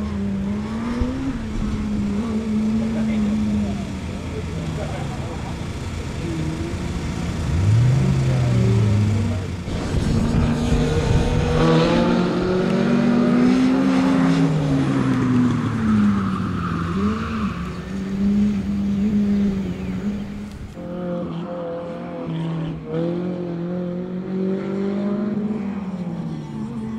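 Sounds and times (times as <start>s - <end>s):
race car engine revving: 0.0s - 26.9s.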